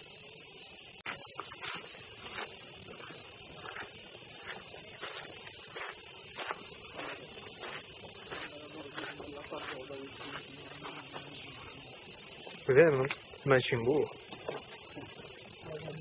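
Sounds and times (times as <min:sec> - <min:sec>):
cicadas buzzing: 0:00.0 - 0:16.0
footsteps on a path: 0:01.0 - 0:13.4, 0:14.1 - 0:15.6.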